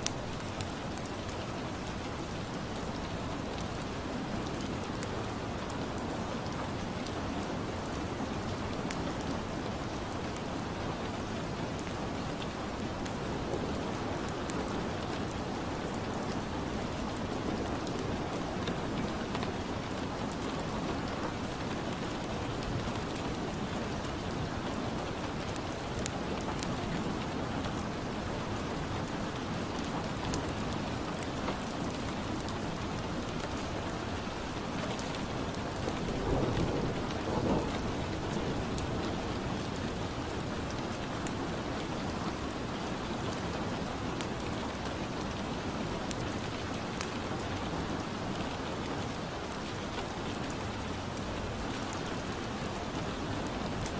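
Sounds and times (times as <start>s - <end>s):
rain falling on a surface: 0.0s - 53.9s.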